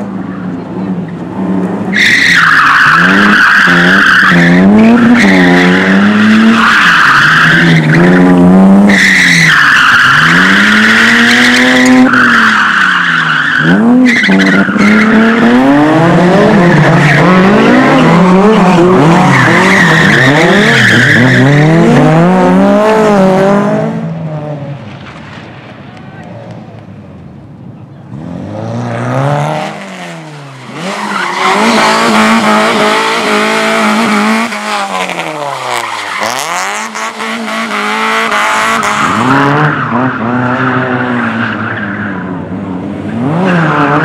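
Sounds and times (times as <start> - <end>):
race car engine revving: 0.0 - 24.5, 28.1 - 41.8.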